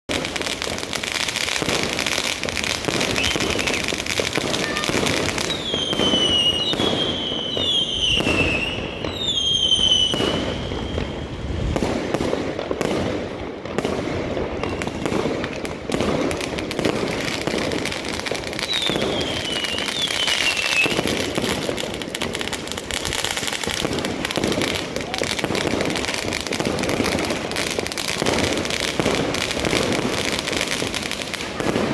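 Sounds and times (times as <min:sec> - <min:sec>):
fireworks bangs and crackling: 0:00.0 - 0:31.9
whistling rockets: 0:02.6 - 0:12.3, 0:14.4 - 0:16.3, 0:16.9 - 0:31.9.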